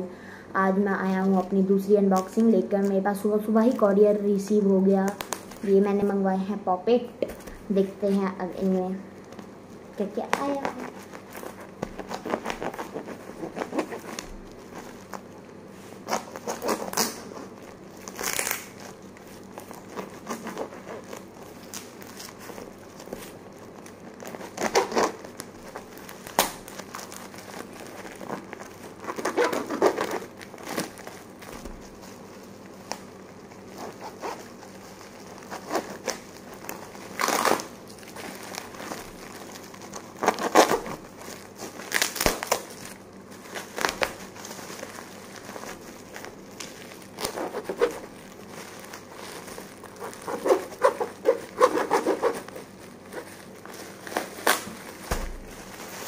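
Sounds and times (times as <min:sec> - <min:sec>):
plastic packaging crinkling and tearing: 0:00.7 - 0:56.0.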